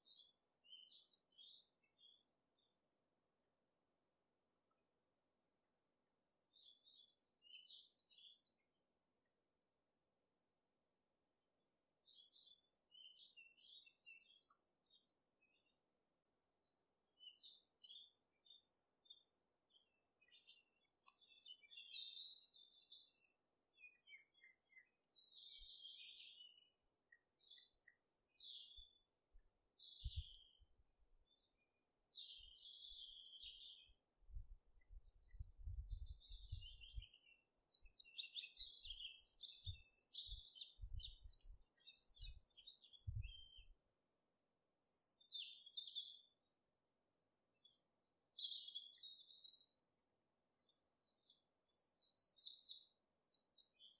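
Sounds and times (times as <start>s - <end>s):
small birds chirping: 0.0s - 3.6s, 6.5s - 8.8s, 12.0s - 46.6s, 47.5s - 53.9s.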